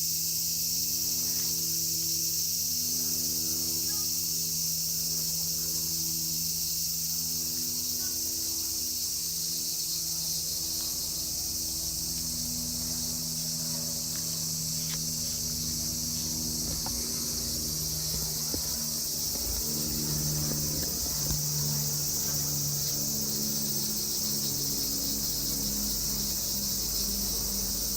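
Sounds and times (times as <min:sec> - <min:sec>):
cicadas droning: 0:00.0 - 0:27.9
low steady hum: 0:01.0 - 0:27.9.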